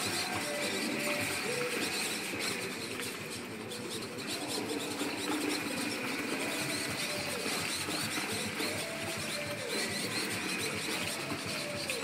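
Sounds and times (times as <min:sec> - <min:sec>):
faint squeaky gliding tones: 0:00.0 - 0:12.0.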